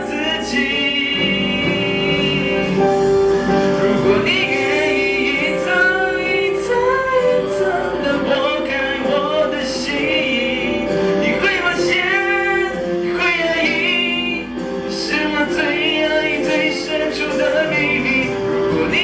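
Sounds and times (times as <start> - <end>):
pop ballad: 0.0 - 19.0.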